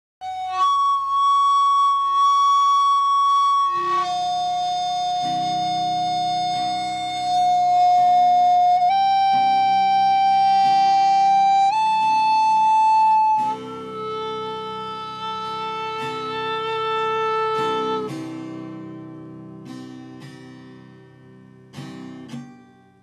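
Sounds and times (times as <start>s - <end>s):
flute playing held notes: 0.2s - 19.2s
guitar chords: 0.2s - 23.0s.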